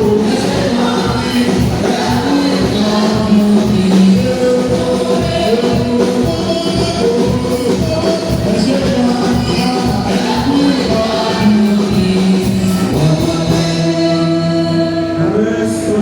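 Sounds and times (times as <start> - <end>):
steady drum beat: 0.0 - 14.7
gospel group singing: 0.0 - 16.0.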